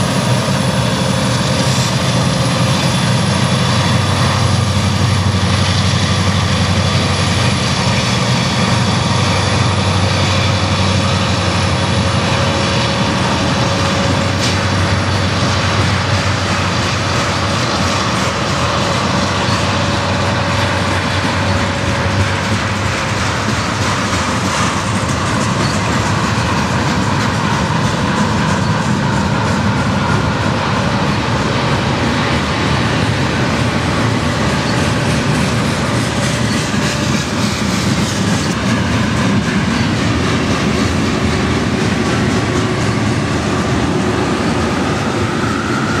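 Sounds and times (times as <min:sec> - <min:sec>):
diesel locomotives running: 0:00.0 - 0:46.0
freight cars rolling on rails: 0:00.0 - 0:46.0.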